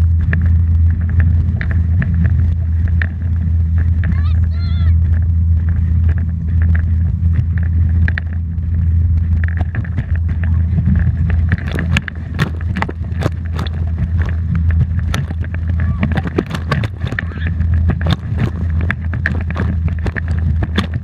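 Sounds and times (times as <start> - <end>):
rushing water: 0.0 - 21.0
wind rumble: 0.0 - 21.0.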